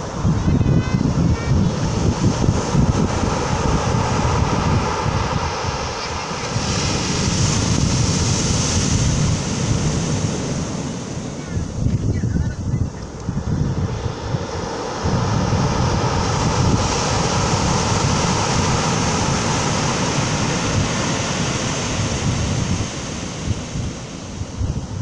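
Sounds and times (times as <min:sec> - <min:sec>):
airplane passing overhead: 0:00.0 - 0:11.9, 0:13.0 - 0:24.5
surf: 0:00.0 - 0:25.0
wind buffeting microphone: 0:00.0 - 0:25.0.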